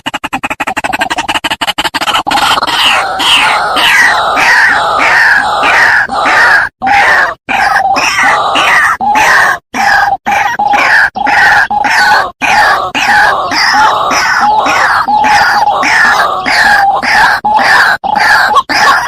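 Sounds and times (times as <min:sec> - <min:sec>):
waterhen harsh calls: 0:00.4 - 0:19.0.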